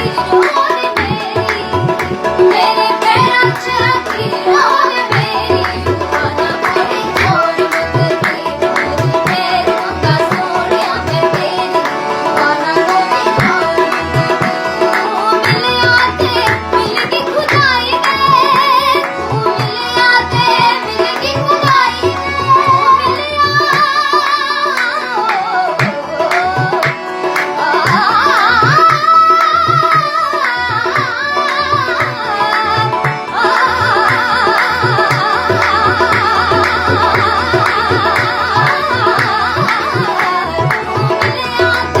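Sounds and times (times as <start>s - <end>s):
tabla rhythm: 0.0s - 42.0s
woman singing: 0.0s - 42.0s.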